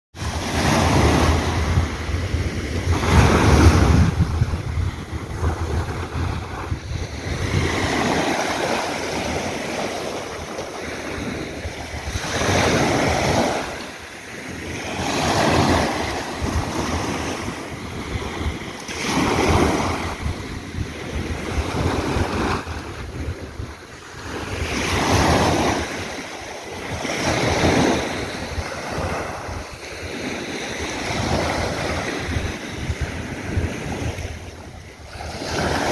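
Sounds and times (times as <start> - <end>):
sea waves breaking on shore: 0.2 - 35.9
wind rumble on microphone: 0.2 - 35.9.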